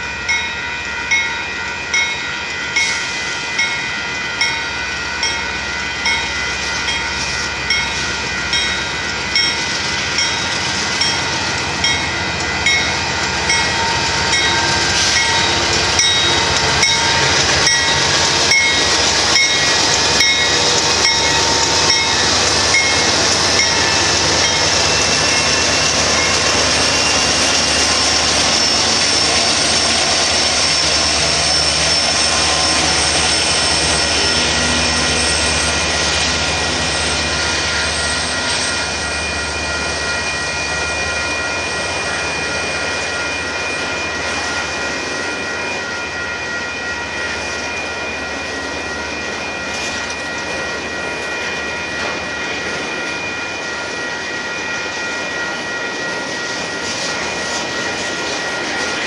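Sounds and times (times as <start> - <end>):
crossing bell ringing: 0.0 - 59.0
freight train rumble and clatter: 0.0 - 59.0.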